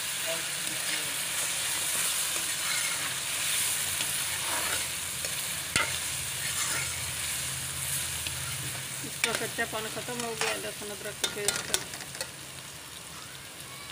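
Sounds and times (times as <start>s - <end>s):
vegetables sizzling in hot oil: 0.0s - 13.9s
metal spoon scraping a wok: 0.8s - 12.4s.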